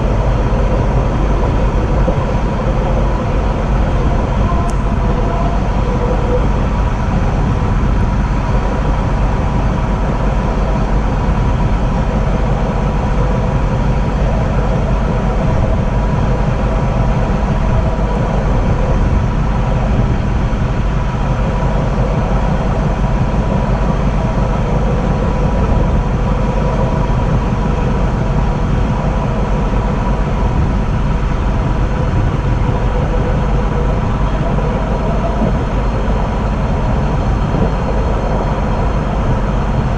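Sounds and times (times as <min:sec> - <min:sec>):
electric train rumbling: 0:00.0 - 0:39.9.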